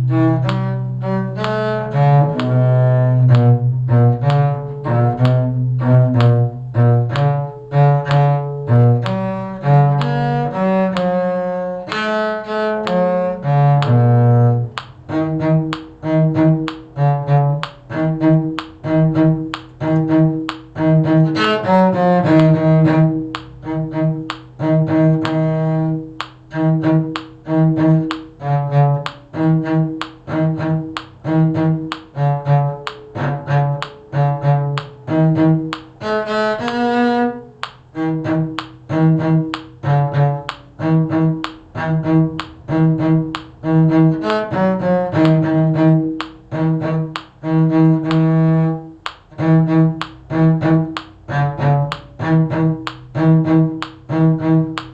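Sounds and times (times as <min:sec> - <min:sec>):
bowed cello: 0:00.0 - 0:54.9.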